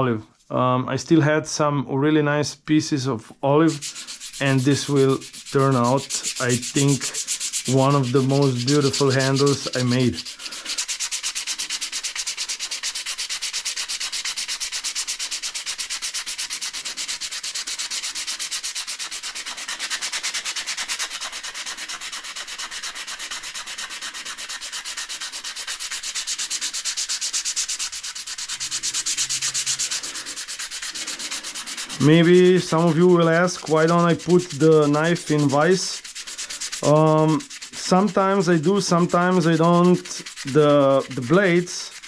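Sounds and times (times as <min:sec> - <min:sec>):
sandpaper sanding wood: 0:03.6 - 0:42.0.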